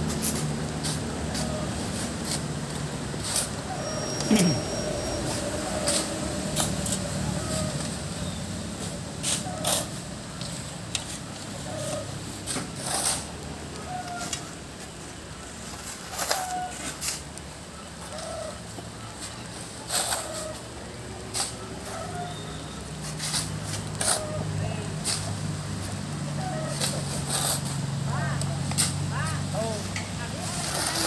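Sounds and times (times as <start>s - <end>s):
shovels scraping sand: 0.0s - 14.6s, 15.4s - 17.3s, 18.0s - 31.0s.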